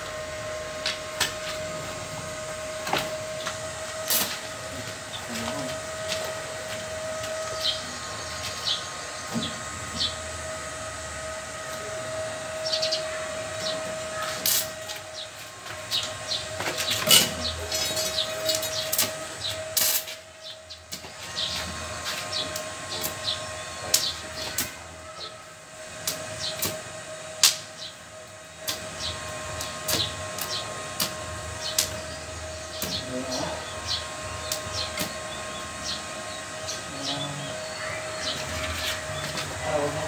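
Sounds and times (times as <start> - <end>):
steady high whine: 0.0 - 40.0
welding arc crackling: 0.0 - 40.0.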